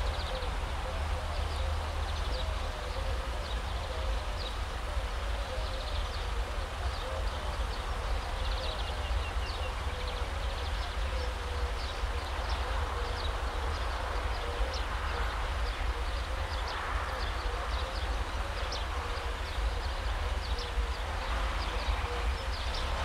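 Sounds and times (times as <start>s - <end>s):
songbirds chirping and trilling: 0.0s - 23.0s.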